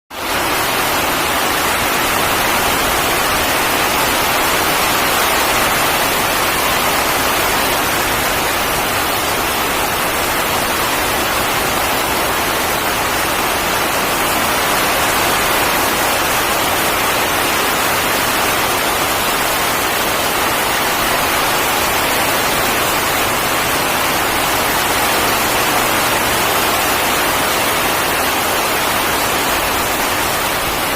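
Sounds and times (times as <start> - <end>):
heavy rain pouring: 0.1 - 30.9.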